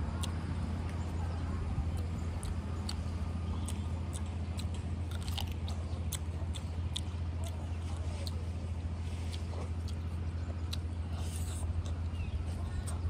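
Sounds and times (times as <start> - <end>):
steady low hum: 0.0 - 13.0
crisp chewing clicks and crunches: 0.1 - 13.0.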